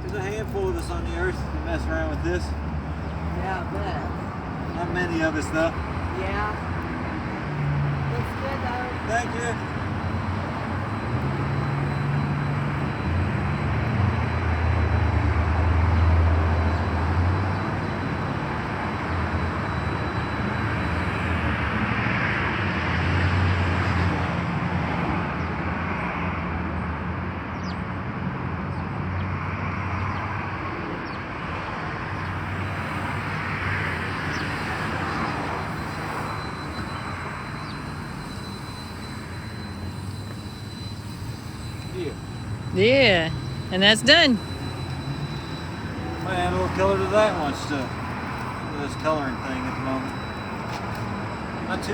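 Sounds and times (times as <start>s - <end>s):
street hum: 0.0s - 51.9s
vehicles passing: 0.0s - 51.9s.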